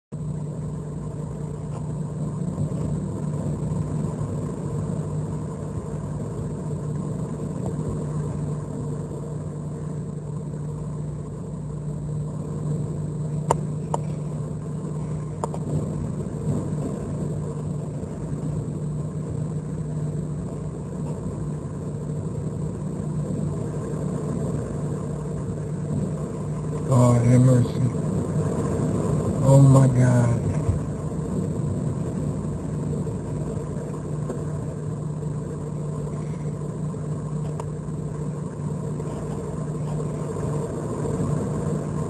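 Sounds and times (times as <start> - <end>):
hurricane wind and driving rain: 0.2 - 42.0.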